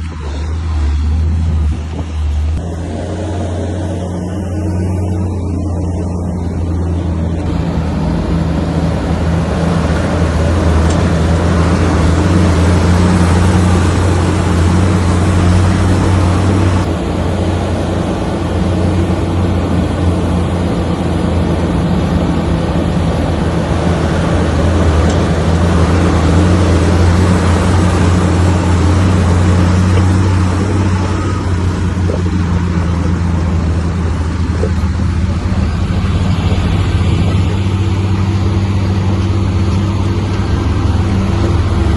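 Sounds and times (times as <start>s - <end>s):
bulldozer diesel engine: 0.0s - 41.9s.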